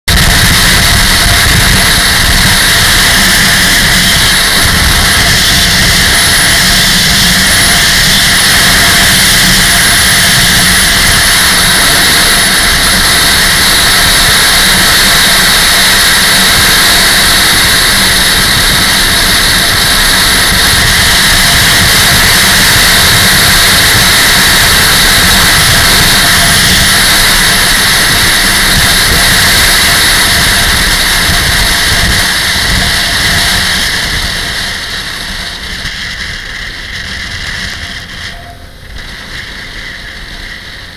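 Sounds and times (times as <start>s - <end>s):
motorcycle engine running: 0.0s - 40.9s
wind rushing over microphone: 0.1s - 40.9s.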